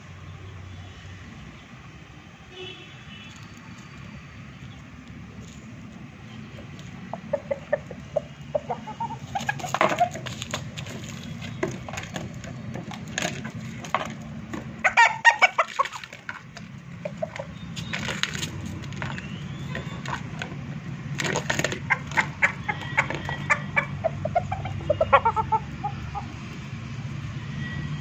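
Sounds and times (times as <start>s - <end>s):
roosters clucking and calling: 3.3s - 27.4s.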